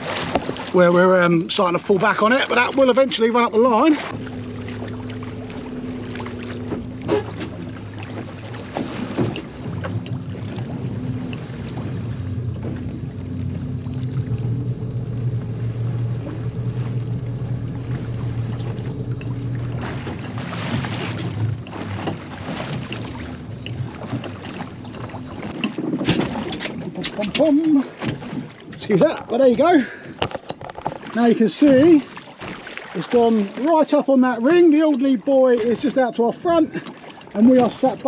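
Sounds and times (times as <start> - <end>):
small boat engine running: 0.0 - 38.0.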